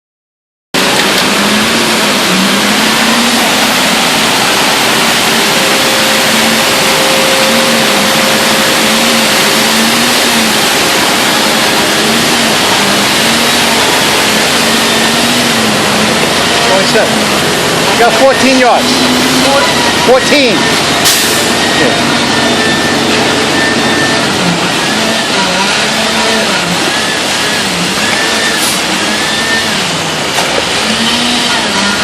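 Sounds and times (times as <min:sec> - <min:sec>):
heavy vehicle engine running: 0:00.8 - 0:32.0.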